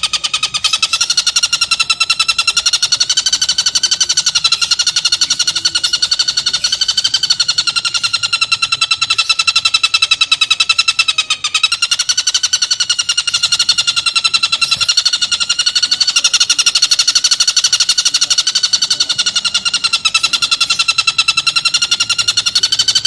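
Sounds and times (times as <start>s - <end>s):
kingfisher rattling call: 0.0s - 23.0s.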